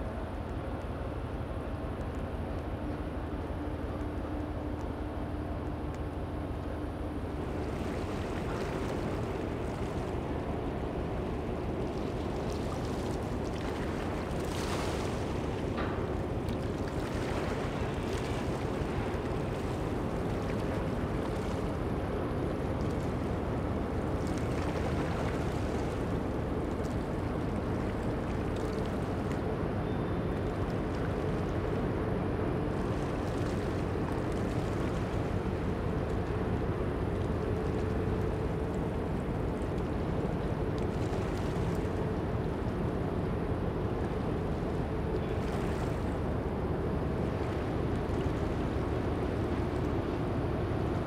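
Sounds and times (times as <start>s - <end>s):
faint constant hum: 0.0s - 51.0s.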